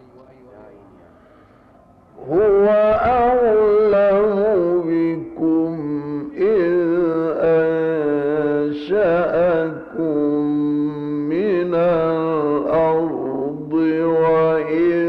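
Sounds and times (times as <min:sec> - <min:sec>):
man reciting melodically: 0:00.0 - 0:01.5, 0:02.2 - 0:15.0.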